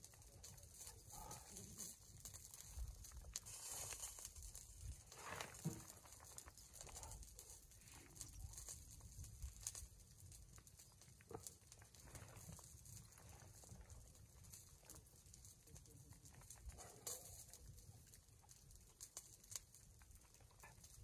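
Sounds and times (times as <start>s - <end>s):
light steady hiss: 0.0s - 19.9s.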